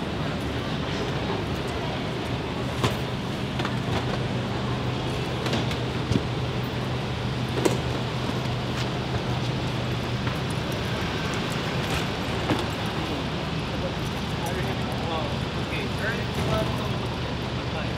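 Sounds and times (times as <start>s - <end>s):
road noise: 0.0s - 17.9s
vehicle engine hum: 0.0s - 17.9s.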